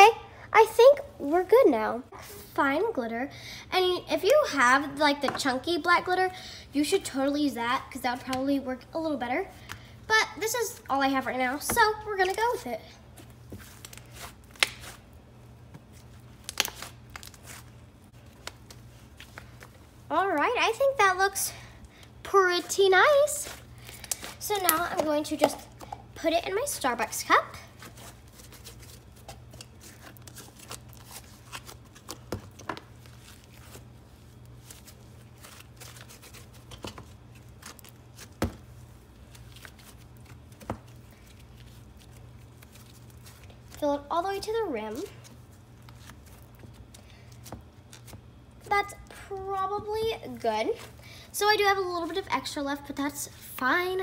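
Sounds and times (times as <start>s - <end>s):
sticky slime crackling: 10.4s - 54.0s.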